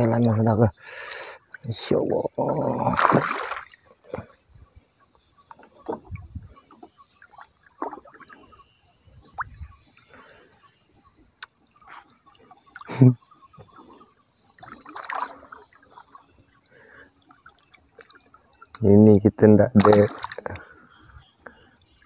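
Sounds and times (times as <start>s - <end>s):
faint water splashes: 1.1s - 10.6s, 11.4s - 22.0s.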